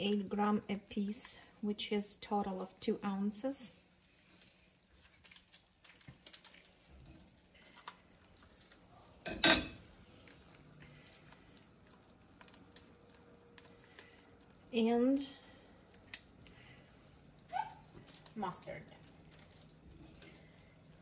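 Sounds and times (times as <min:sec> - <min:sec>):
liquid simmering in a pan: 0:00.0 - 0:21.0.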